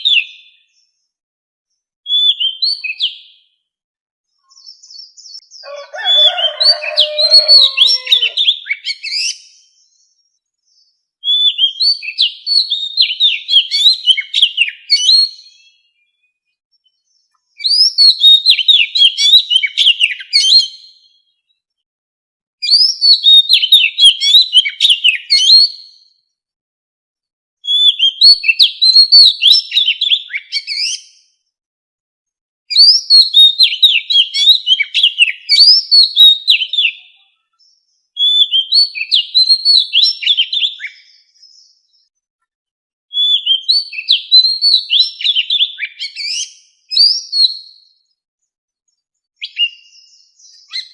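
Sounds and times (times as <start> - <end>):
bird singing whistled notes: 0.0 - 3.6, 4.4 - 21.6, 22.6 - 26.3, 27.6 - 31.3, 32.7 - 42.1, 43.1 - 48.2, 48.9 - 50.9.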